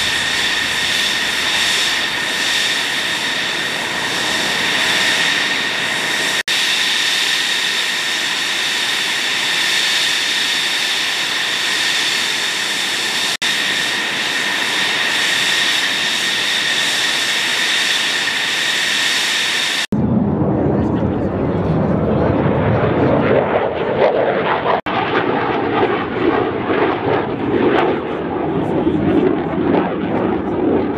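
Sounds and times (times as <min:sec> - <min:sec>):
jet engine idling with high whine: 0:00.0 - 0:30.9.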